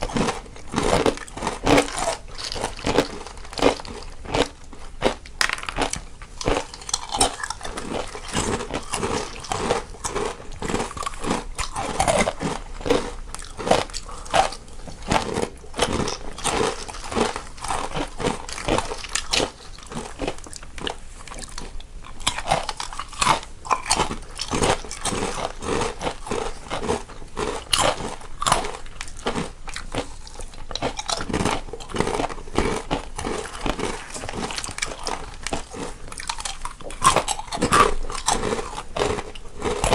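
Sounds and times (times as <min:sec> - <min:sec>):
people chewing crunchy snacks: 0:00.0 - 0:39.9.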